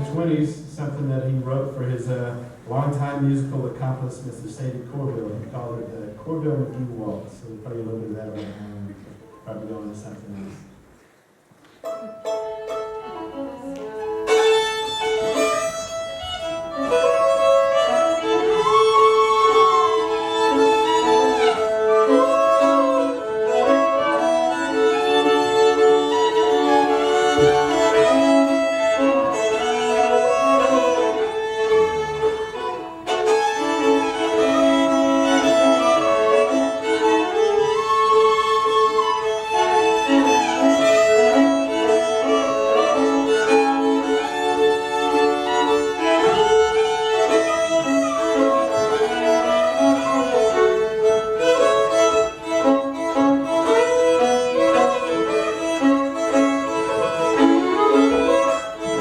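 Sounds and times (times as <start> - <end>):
fiddles playing a waltz: 0.0 - 1.8, 11.8 - 59.0.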